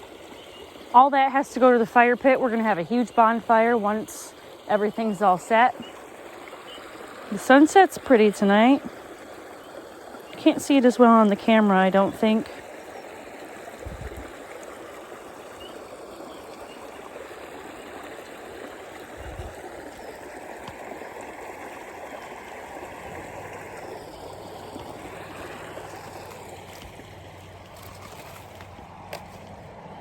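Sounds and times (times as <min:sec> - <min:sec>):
stream over small waterfall: 0:00.0 - 0:30.0.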